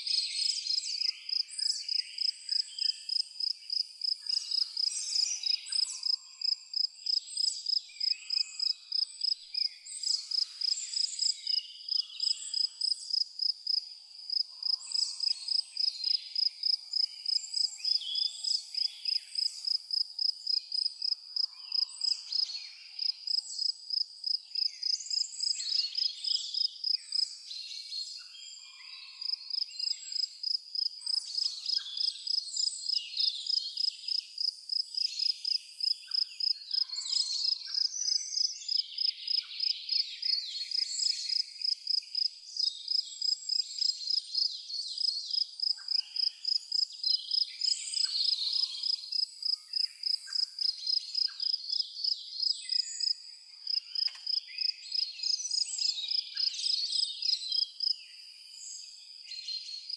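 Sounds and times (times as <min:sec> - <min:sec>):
cricket chirping: 0:00.0 - 0:27.9, 0:28.9 - 0:59.9
songbirds chirping and singing: 0:00.0 - 0:59.9.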